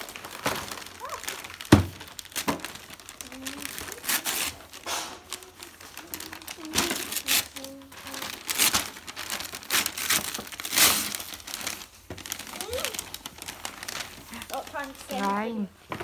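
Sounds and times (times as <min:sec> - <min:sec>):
wrapping paper tearing: 0:00.0 - 0:15.5.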